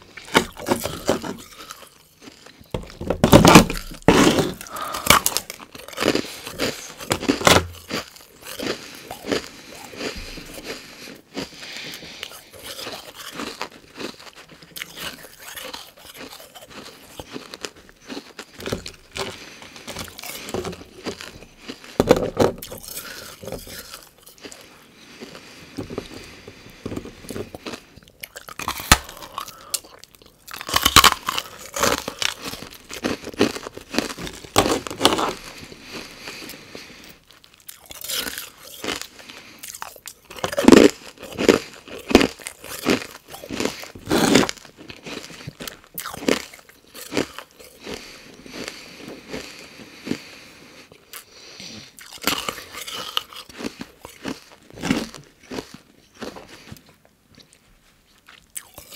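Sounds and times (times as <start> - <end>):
ice crunching being chewed: 0.0 - 58.9.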